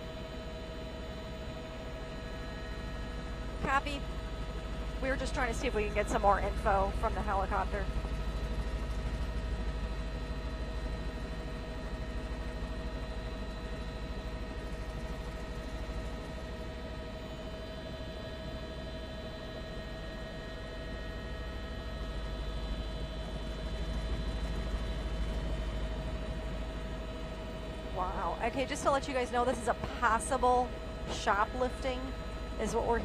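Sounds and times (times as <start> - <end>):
constant humming tones: 0.0 - 33.0
helicopter cabin drone: 0.0 - 33.0.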